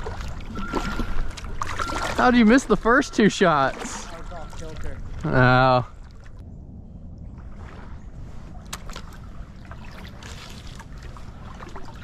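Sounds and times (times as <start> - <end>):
low steady rumble: 0.0 - 12.0
water lapping at hull: 0.0 - 12.0.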